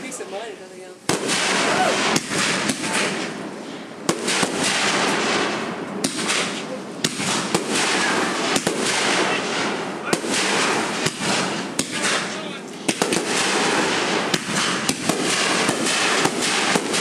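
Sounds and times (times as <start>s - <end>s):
fireworks crackling: 0.0s - 17.0s
fireworks bangs: 1.0s - 17.0s.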